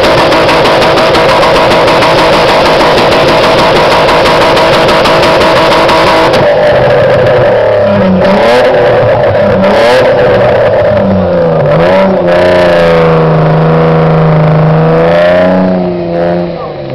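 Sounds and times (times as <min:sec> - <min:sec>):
car engine revving hard: 0:00.0 - 0:16.9.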